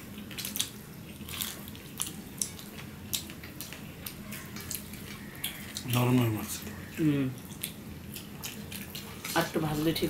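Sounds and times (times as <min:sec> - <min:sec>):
moist chewing and hand eating: 0:00.0 - 0:09.5.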